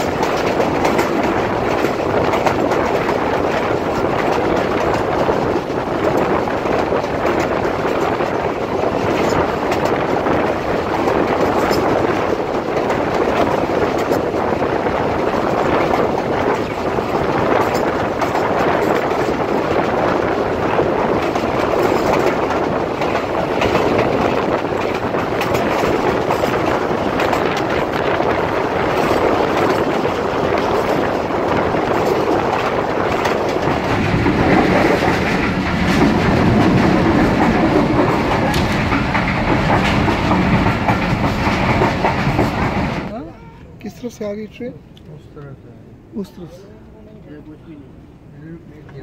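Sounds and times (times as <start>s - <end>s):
train wheels clattering on rails: 0.0s - 43.2s.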